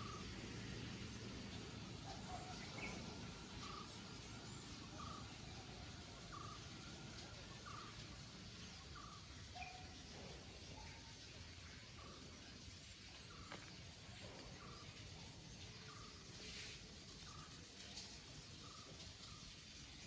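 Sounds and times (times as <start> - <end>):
low outdoor rumble and hiss: 0.0 - 20.0.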